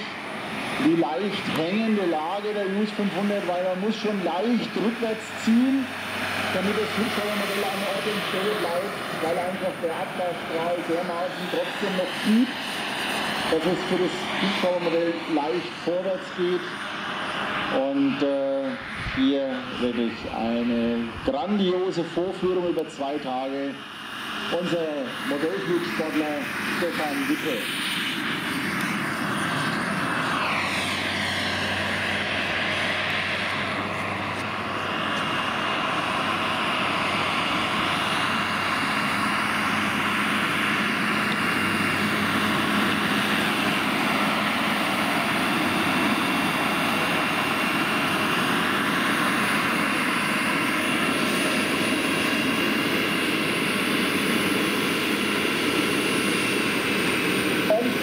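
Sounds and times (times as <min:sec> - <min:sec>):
model helicopter turbine whine: 0:00.0 - 0:58.0.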